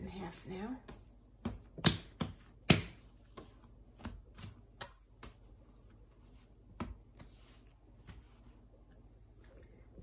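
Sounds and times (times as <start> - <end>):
hands slapping sticky dough: 0.7 - 8.9.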